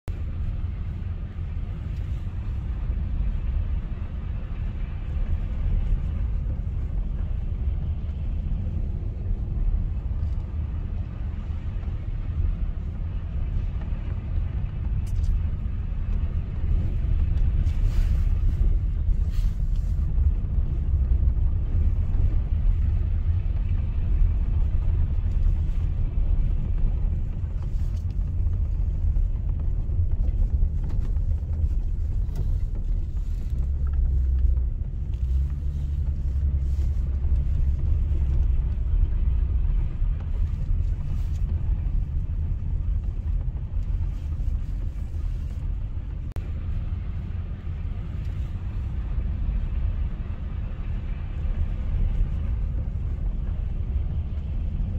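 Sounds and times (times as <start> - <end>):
car rumbling from inside: 0.0 - 54.9.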